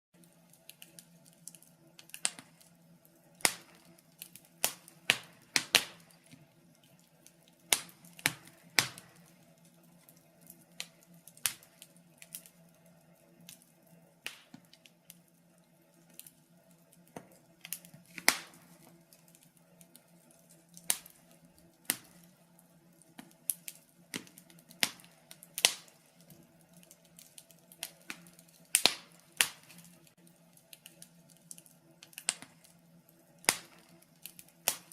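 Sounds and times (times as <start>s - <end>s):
faint steady hum: 0.2s - 34.9s
wood fire crackling: 0.2s - 34.9s.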